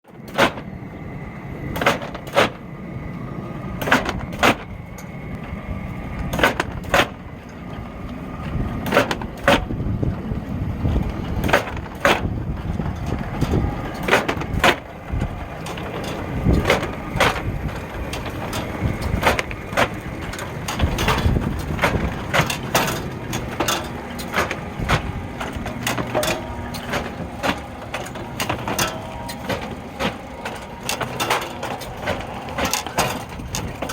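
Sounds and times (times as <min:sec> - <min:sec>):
machine rumble: 0:00.0 - 0:33.9
sharp clacks of trays: 0:00.1 - 0:00.7, 0:01.7 - 0:02.7, 0:03.8 - 0:05.2, 0:06.2 - 0:07.6, 0:08.4 - 0:10.2, 0:10.8 - 0:33.9.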